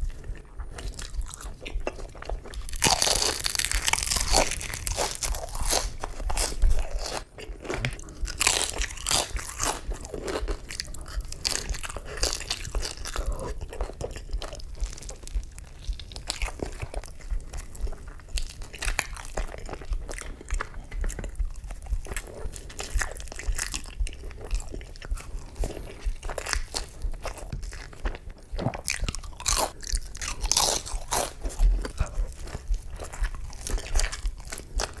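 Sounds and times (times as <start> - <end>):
crunchy food being chewed: 0.0 - 35.0.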